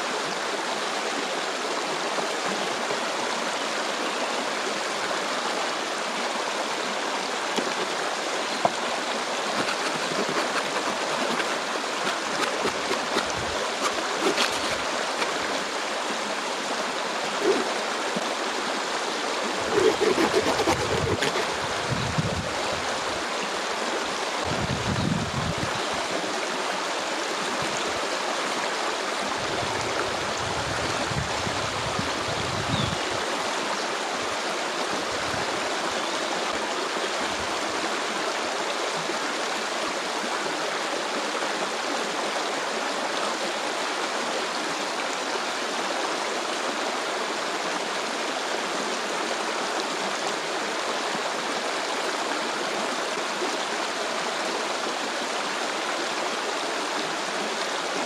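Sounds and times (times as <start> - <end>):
stream rushing and splashing: 0.0 - 58.0.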